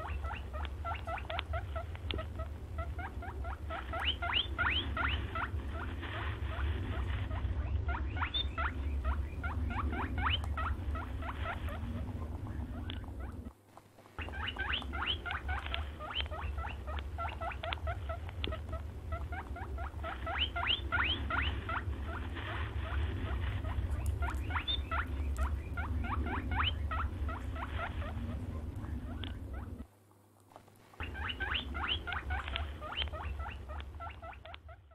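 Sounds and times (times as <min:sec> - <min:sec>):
steady low rumble: 0:00.0 - 0:30.1, 0:30.9 - 0:34.9.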